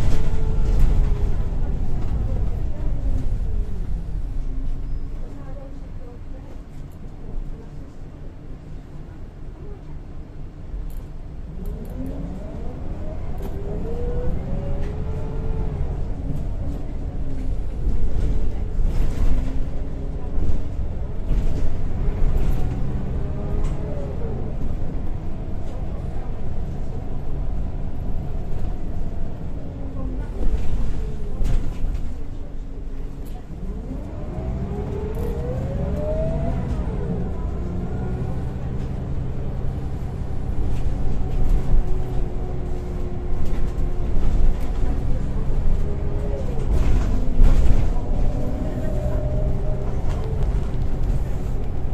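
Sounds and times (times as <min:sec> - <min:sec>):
bus engine droning with whine: 0:00.0 - 0:51.9.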